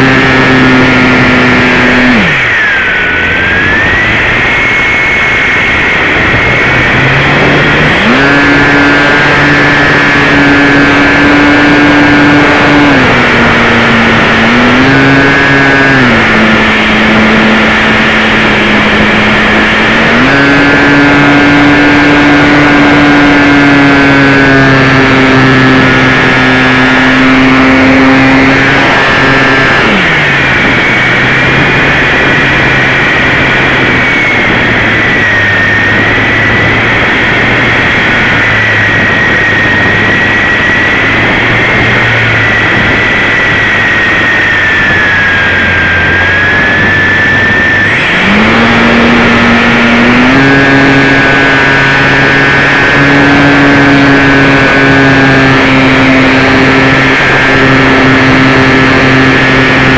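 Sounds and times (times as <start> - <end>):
model plane motor buzzing: 0.0 - 59.9
rushing air: 0.0 - 59.9
thin high whine: 0.0 - 59.9.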